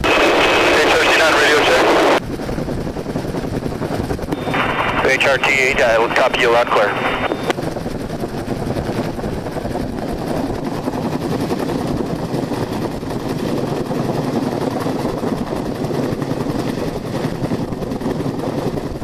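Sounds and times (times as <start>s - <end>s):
helicopter engine and downwash rush: 0.0s - 19.0s
helicopter rotor blades chopping: 0.0s - 19.0s.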